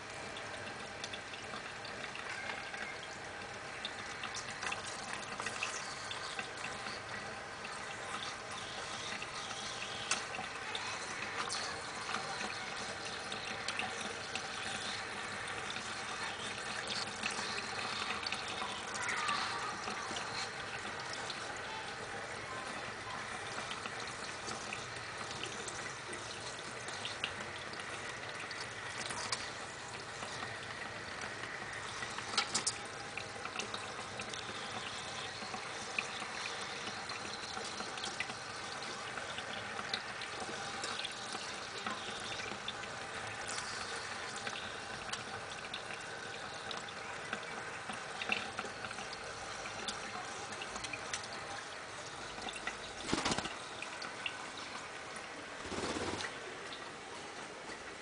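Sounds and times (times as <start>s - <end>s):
water trickling spray: 0.1s - 56.9s.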